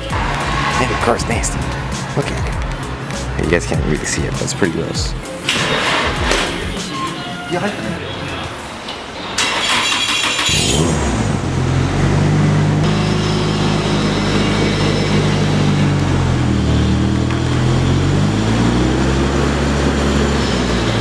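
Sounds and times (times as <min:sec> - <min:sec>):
car engine revving: 0:00.0 - 0:07.0, 0:09.4 - 0:21.0.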